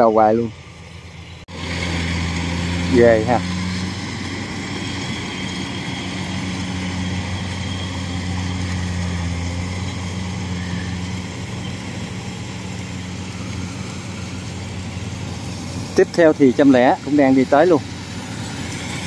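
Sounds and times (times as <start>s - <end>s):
combine harvester diesel engine: 0.0s - 19.0s.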